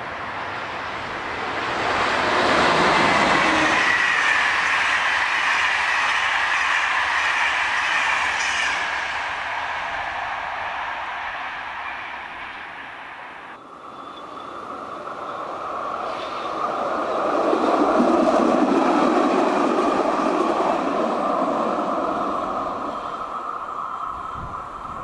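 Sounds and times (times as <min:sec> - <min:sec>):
tram passing by: 0:00.0 - 0:25.0.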